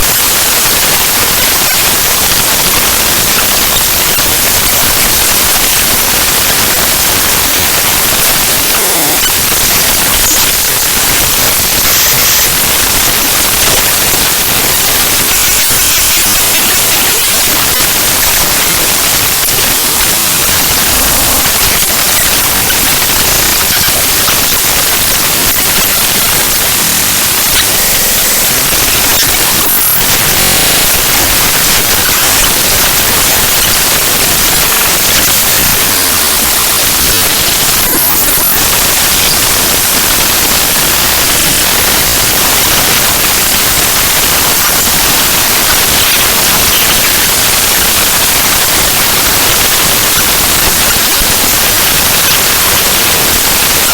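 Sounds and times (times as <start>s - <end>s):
harsh static: 0.0s - 53.9s.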